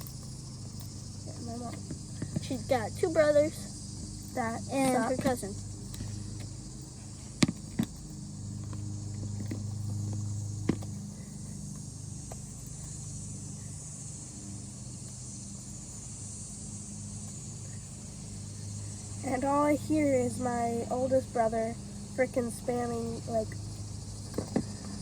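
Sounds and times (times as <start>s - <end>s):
insects chirring: 0.0s - 25.0s
low steady hum: 0.0s - 25.0s.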